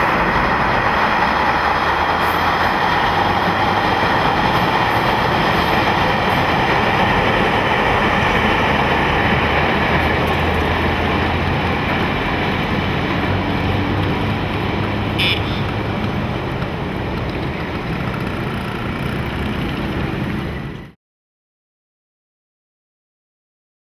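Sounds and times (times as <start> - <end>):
train rumbling on viaduct: 0.0 - 21.0.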